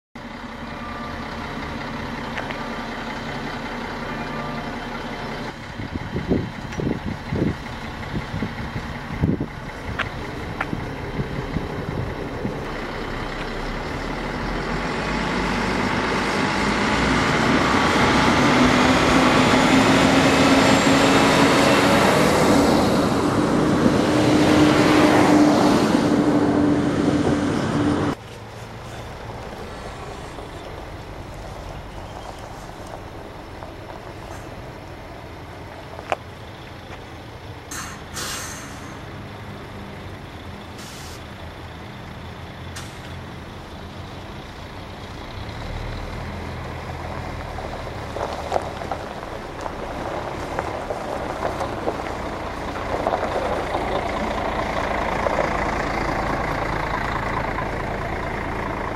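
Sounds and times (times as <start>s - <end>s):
diesel railcar engine: 0.2s - 58.9s.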